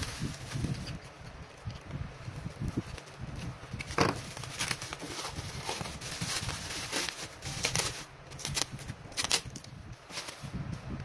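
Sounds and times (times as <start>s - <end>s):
bubble wrap crinkling: 0.0s - 1.6s, 2.3s - 10.5s.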